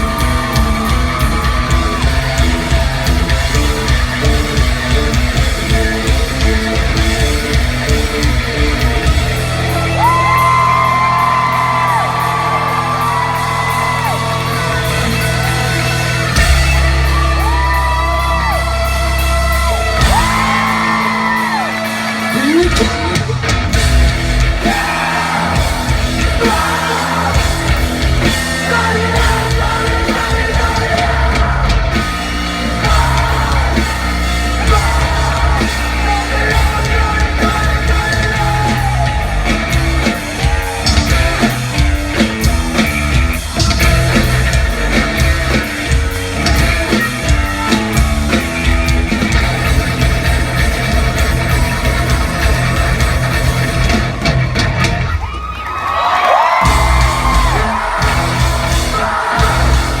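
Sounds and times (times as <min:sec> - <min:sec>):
singer yelling and singing: 0:00.0 - 0:54.6, 0:56.0 - 1:00.0
rock band playing live: 0:00.0 - 1:00.0.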